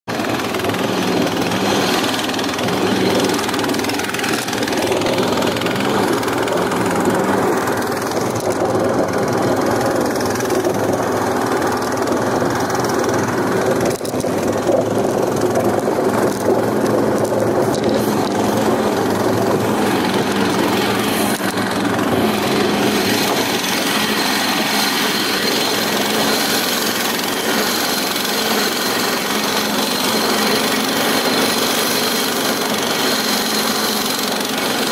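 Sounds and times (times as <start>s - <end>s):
engine running loudly: 0.0s - 34.9s.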